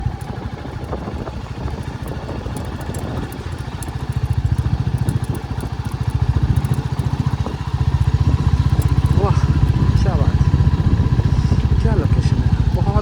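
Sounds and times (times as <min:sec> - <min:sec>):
motorcycle engine thumping: 0:00.0 - 0:13.0.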